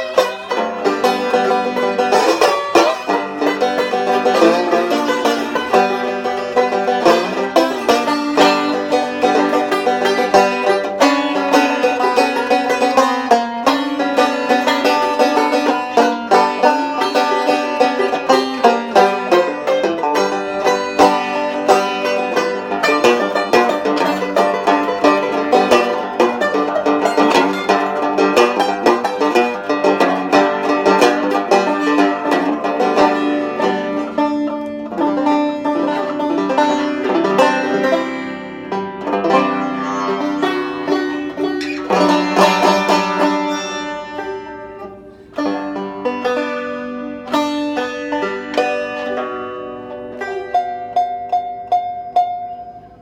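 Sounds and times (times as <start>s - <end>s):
banjo fast picking: 0.0s - 53.0s.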